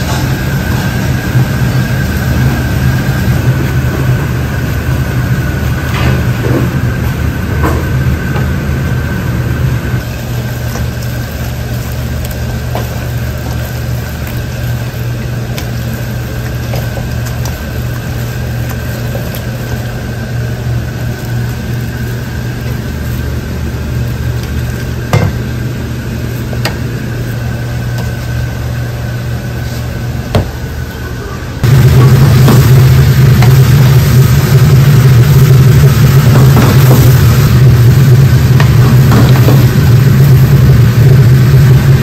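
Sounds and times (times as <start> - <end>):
high whine: 0.0 - 42.0
low mechanical hum: 0.0 - 42.0.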